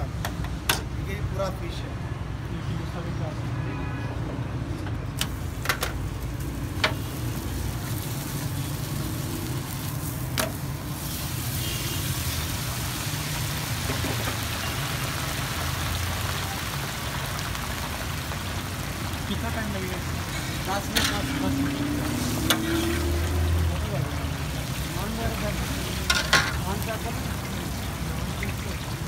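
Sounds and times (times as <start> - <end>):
oil sizzling: 5.2 - 29.0.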